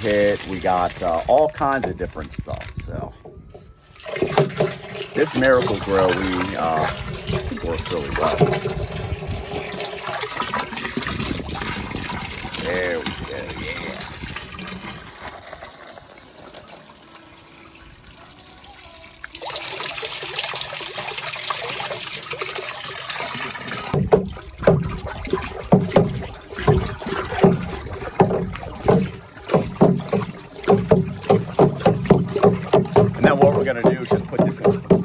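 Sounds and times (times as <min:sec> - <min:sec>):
water pouring into a barrel: 0:00.0 - 0:35.0
water sloshing: 0:00.0 - 0:35.0.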